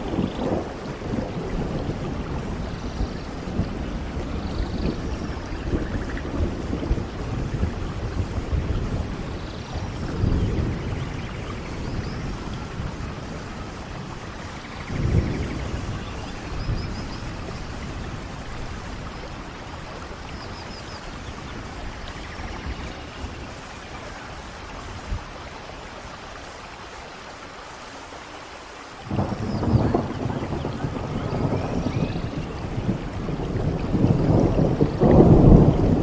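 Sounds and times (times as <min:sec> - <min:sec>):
thunder rumbling: 0:00.0 - 0:26.5, 0:29.0 - 0:36.0
heavy rain: 0:00.0 - 0:36.0.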